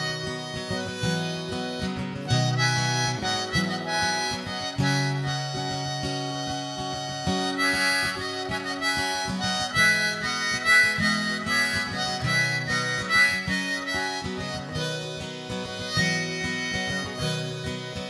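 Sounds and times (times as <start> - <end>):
guitar strumming: 0.0 - 18.0
harmonica melody: 0.0 - 18.0.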